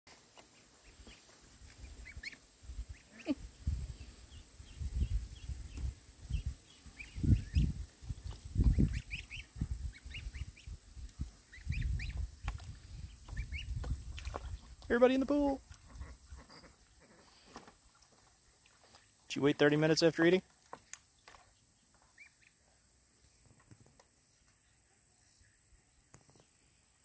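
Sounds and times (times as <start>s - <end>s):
ducklings peeping: 0.4s - 22.6s.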